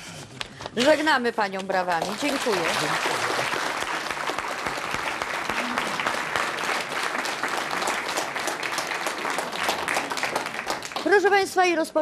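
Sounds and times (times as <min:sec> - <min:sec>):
audience applauding: 0:01.9 - 0:11.6.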